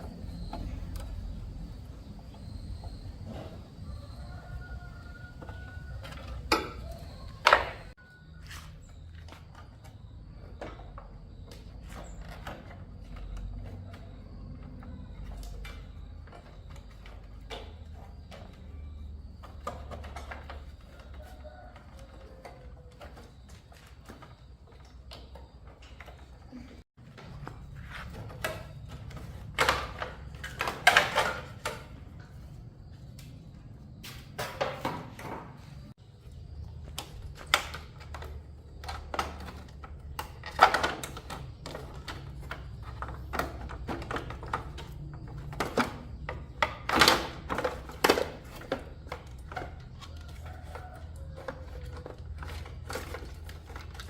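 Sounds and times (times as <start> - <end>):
tools and metal parts clanking: 0.0 - 54.0.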